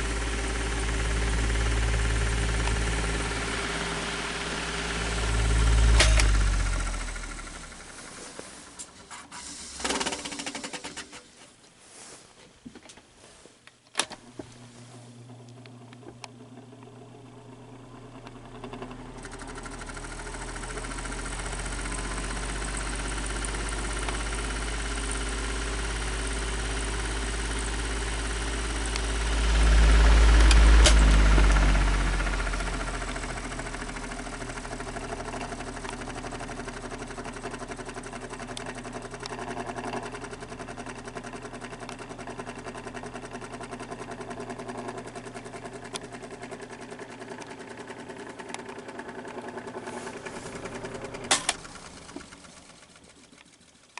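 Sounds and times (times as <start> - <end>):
electric fan motor humming: 0.0 - 11.1, 14.0 - 53.9.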